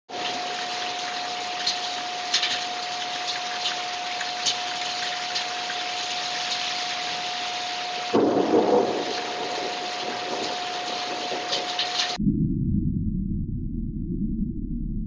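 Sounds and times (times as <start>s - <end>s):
drips and splashes: 0.1s - 12.2s
heavy rain pouring: 0.1s - 12.2s.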